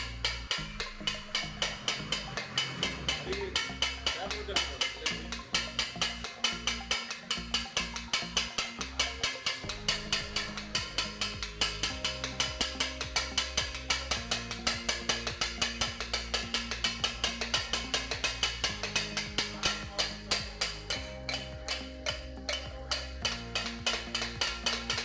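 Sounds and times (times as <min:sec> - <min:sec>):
metal blades chopping on griddle: 0:00.0 - 0:25.0.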